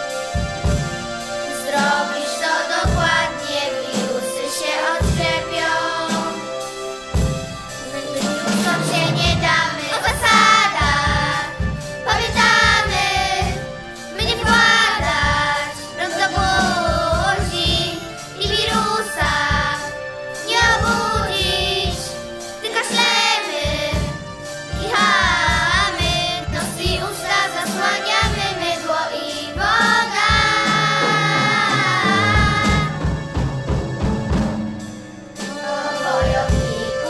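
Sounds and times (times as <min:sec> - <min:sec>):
instrumental backing track: 0:00.0 - 0:37.0
children singing: 0:01.4 - 0:34.1, 0:35.4 - 0:37.0.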